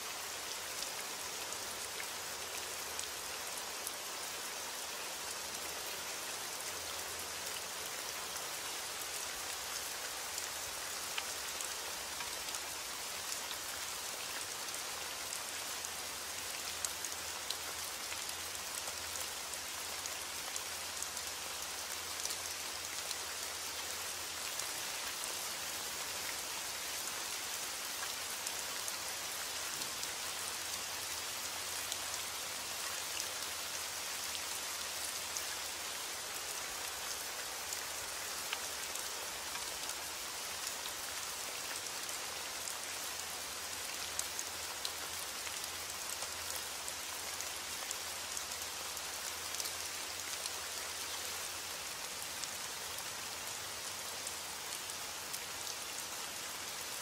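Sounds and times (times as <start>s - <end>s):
steady rain hiss: 0.0s - 57.0s
ticks of raindrops: 0.1s - 56.8s.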